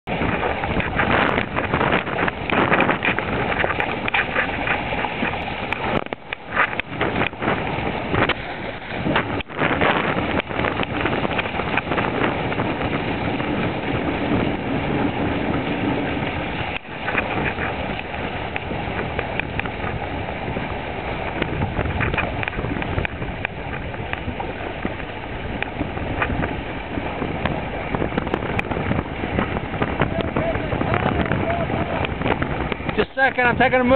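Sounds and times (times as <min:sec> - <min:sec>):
water rushing past hulls: 0:00.0 - 0:33.9
wind buffeting microphone: 0:00.0 - 0:33.9.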